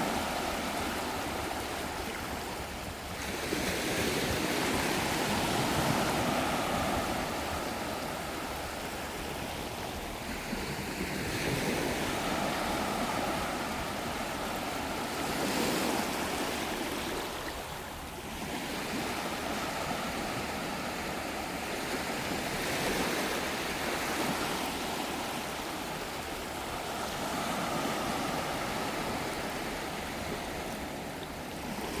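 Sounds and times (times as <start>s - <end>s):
waves breaking on a beach: 0.0s - 32.0s.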